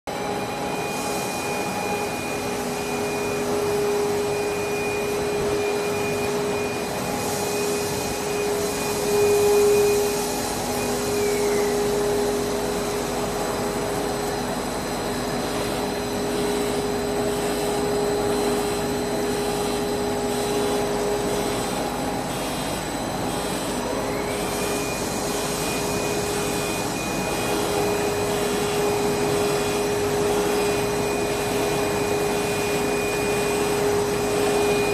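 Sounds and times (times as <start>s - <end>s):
machine hum: 0.1s - 34.9s
machine whines: 0.1s - 34.9s.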